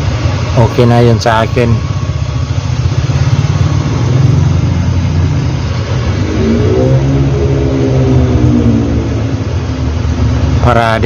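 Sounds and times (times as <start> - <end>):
engine rumbling and revving: 0.0 - 11.0.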